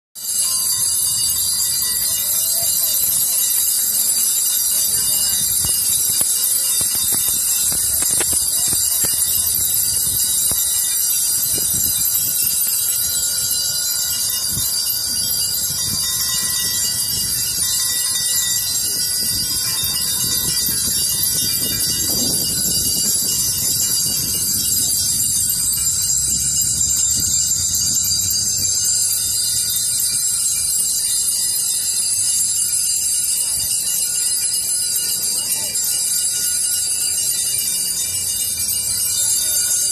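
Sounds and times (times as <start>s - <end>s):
many bells ringing: 0.2s - 39.9s.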